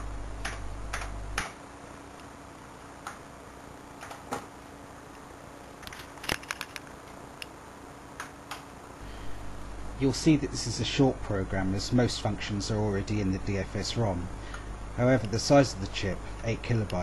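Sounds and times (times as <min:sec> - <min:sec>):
faint steady hiss: 0:00.0 - 0:17.0
low hum: 0:00.0 - 0:17.0.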